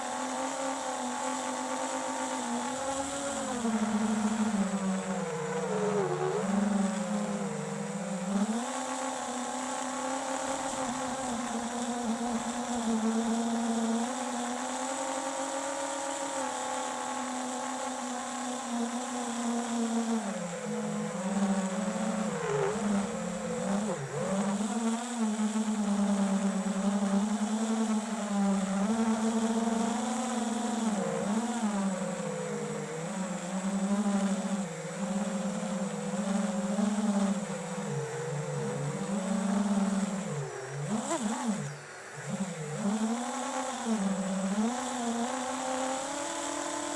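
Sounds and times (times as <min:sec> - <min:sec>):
quadcopter motors buzzing: 0:00.0 - 0:46.9.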